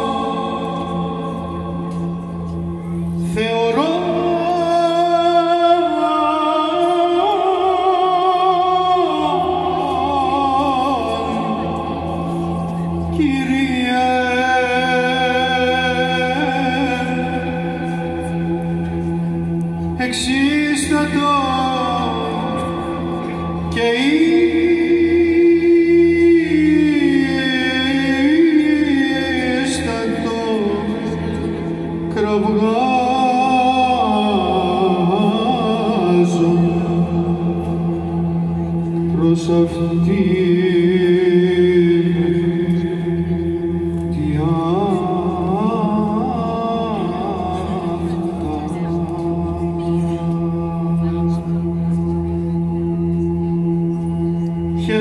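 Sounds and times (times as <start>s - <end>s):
male choir holding drone: 0.0s - 55.0s.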